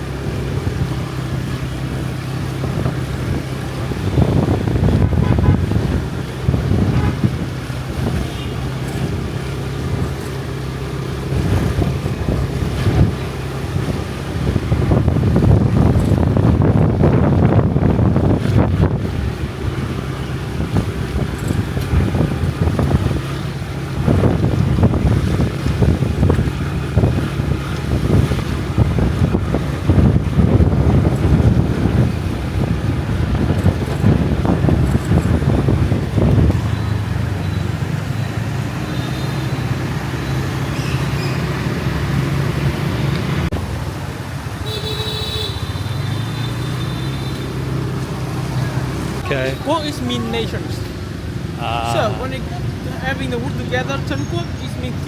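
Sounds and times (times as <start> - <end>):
wind buffeting microphone: 0.0 - 44.9
road traffic engine hum: 0.0 - 55.0
vehicle rumble: 0.0 - 55.0.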